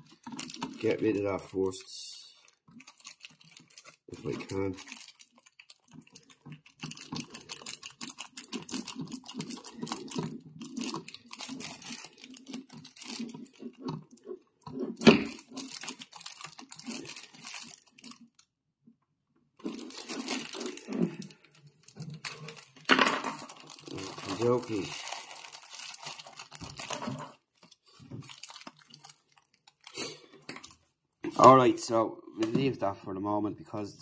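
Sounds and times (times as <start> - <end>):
sticky tape crinkling and tearing: 0.0 - 1.6, 2.2 - 18.4, 19.6 - 31.6
plastic wrapping rustling: 0.0 - 18.5, 19.6 - 31.9.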